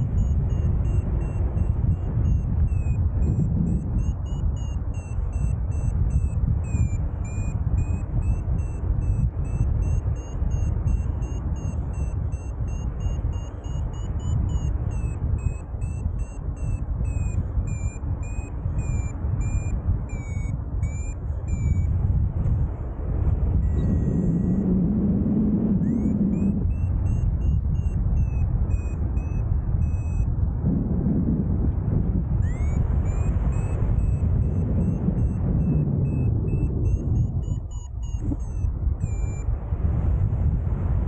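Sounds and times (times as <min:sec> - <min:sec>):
variometer beeping: 0:00.0 - 0:22.5, 0:23.4 - 0:30.5, 0:32.3 - 0:39.5
wind rumble on microphone: 0:00.0 - 0:41.0.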